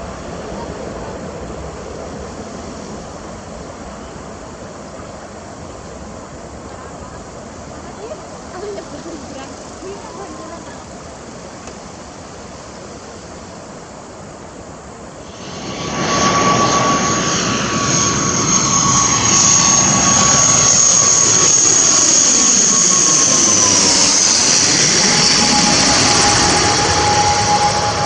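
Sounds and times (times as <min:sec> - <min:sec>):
jet airliner rumble: 0:00.0 - 0:28.0
turboprop propeller drone and whine: 0:00.0 - 0:28.0.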